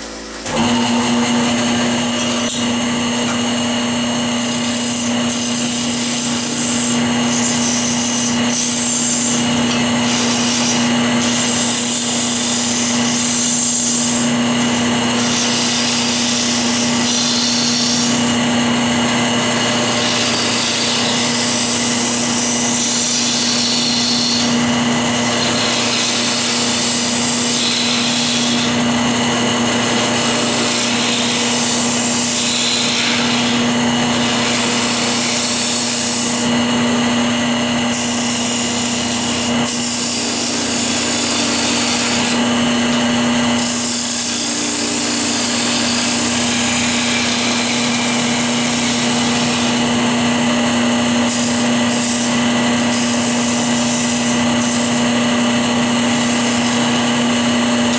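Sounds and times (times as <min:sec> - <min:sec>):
lathe motor humming: 0:00.0 - 0:57.9
turning tool scraping wood: 0:00.0 - 0:57.9.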